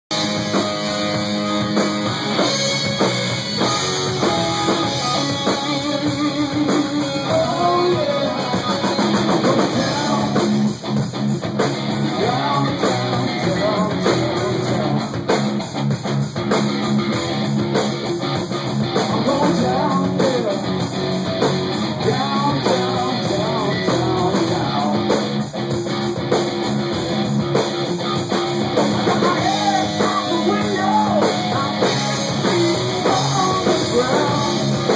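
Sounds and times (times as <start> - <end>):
drum kit: 0.0 - 34.9
electric guitar riffs: 0.1 - 34.9.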